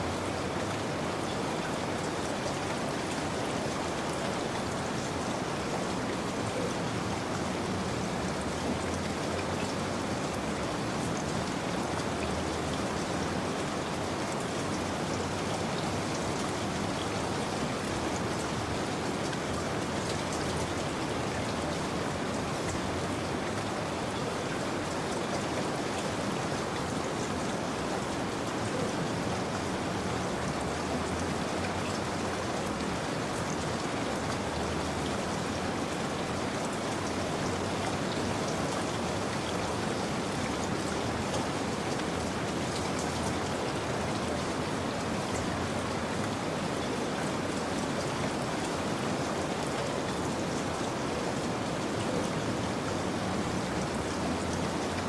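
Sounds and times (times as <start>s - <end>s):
rain pattering on surface: 0.0s - 55.0s.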